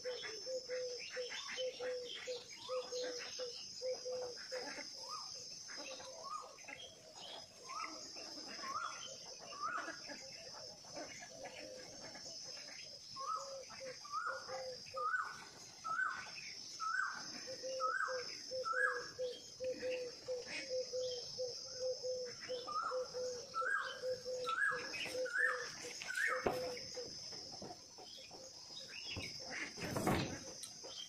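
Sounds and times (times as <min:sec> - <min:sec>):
insect drone: 0:00.0 - 0:31.0.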